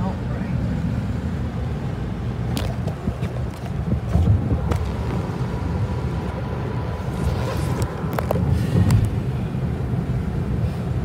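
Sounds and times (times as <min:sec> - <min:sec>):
tyre and engine rumble: 0:00.0 - 0:11.0.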